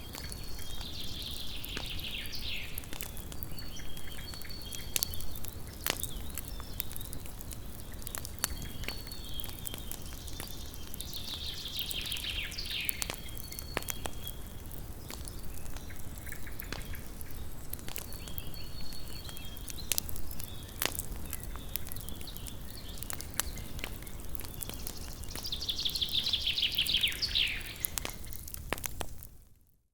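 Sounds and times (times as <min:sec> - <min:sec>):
campfire crackling: 0:00.0 - 0:29.8.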